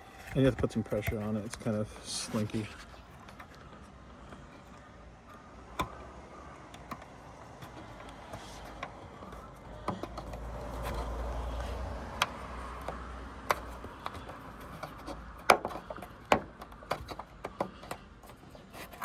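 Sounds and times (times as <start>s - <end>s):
plastic panel rubbing: 0.0s - 4.8s, 5.7s - 19.0s.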